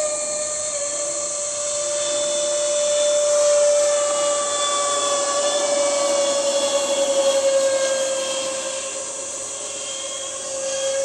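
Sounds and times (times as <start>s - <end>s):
model airplane engines whining: 0.0s - 11.0s.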